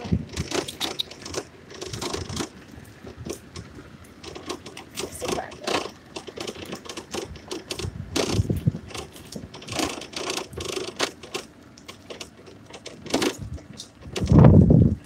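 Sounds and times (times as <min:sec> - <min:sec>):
shopping cart rattling on asphalt: 0:00.0 - 0:15.0.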